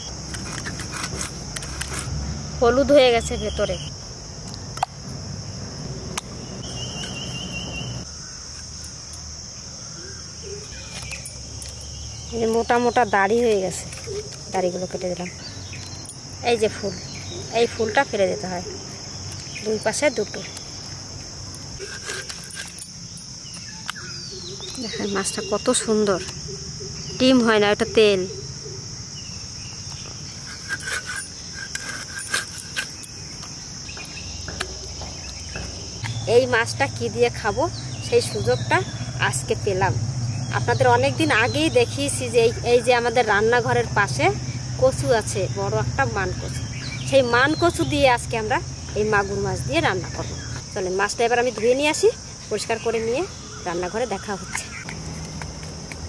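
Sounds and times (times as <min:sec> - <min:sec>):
insect trill: 0:00.0 - 0:56.0
insects chirring: 0:00.0 - 0:56.0.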